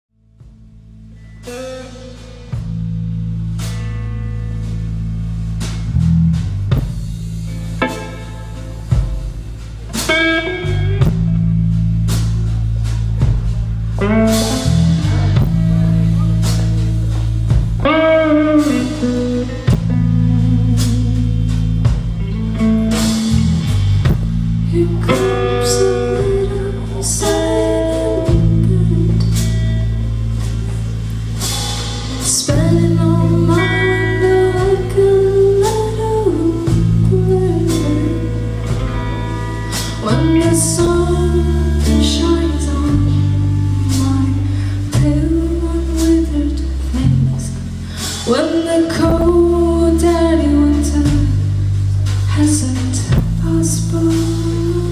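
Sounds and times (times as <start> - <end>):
heavy bass: 0.0 - 54.9
drum kit: 0.2 - 54.9
guitar lines: 0.4 - 54.9.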